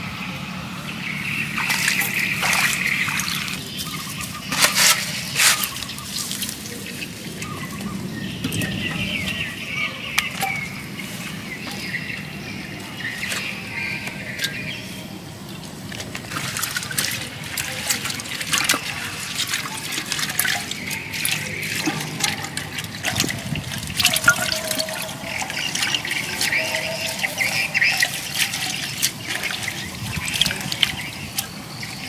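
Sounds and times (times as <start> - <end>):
hands washing vegetables in water: 1.0 - 32.0.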